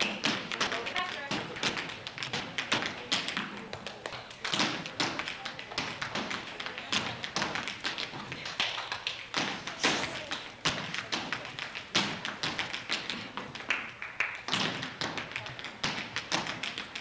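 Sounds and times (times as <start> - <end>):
tap shoes on stage floor: 0.0 - 17.0.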